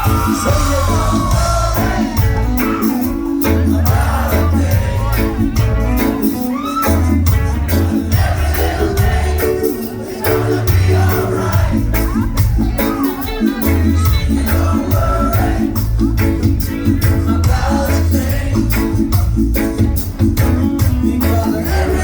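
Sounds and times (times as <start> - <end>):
deep bassline: 0.0 - 22.0
people singing: 0.0 - 22.0
reggae band playing: 0.0 - 22.0.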